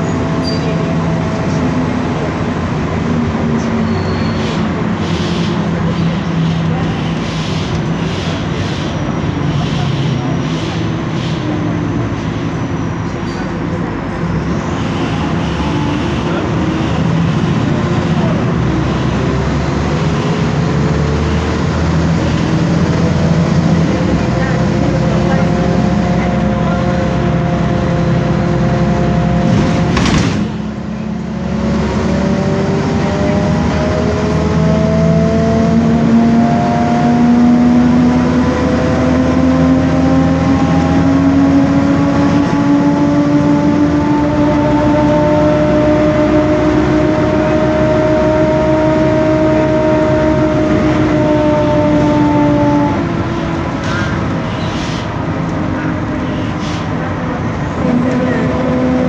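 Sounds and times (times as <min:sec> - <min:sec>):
bus differential whining: 0:00.0 - 0:59.0
diesel engine drone: 0:00.0 - 0:59.0.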